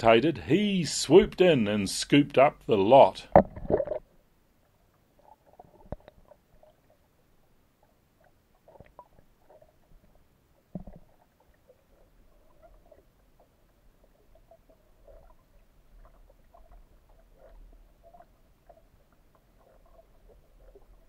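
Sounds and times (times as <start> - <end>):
underwater clicks and crackles: 3.3 - 21.0.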